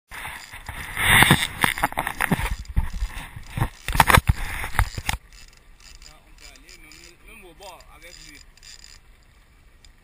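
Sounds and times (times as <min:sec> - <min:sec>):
rapid knocks and scraping: 0:00.1 - 0:09.0.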